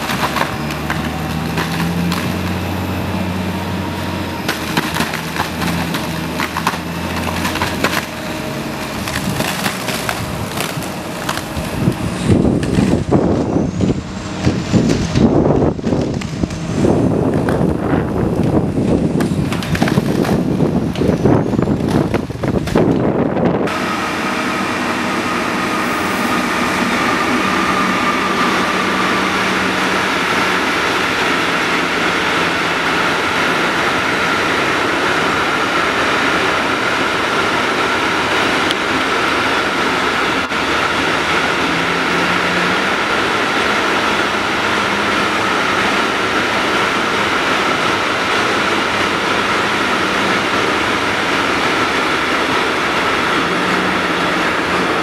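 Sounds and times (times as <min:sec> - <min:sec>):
high whine: 0:00.0 - 0:55.0
train wheels rumbling on rails: 0:00.0 - 0:55.0.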